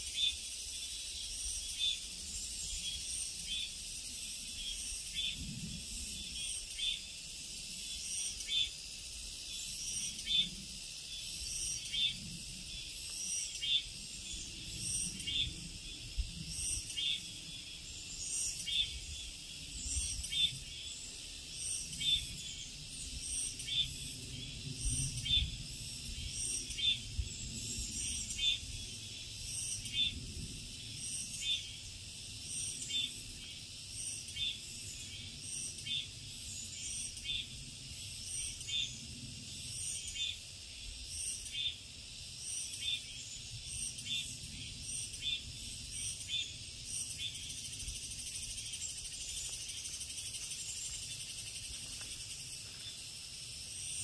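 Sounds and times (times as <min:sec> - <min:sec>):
high-pitched insect drone: 0:00.0 - 0:54.0
insect chirps: 0:00.0 - 0:54.0.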